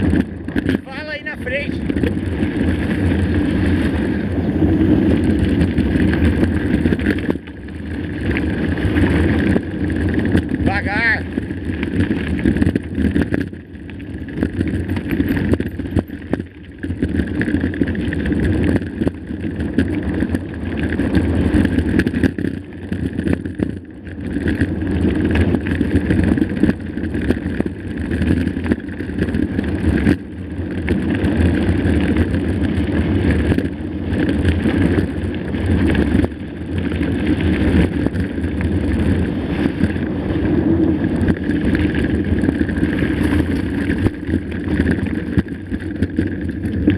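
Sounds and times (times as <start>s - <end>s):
bike tyres rattling over rocks: 0.0s - 46.9s
wind buffeting microphone: 0.0s - 46.9s.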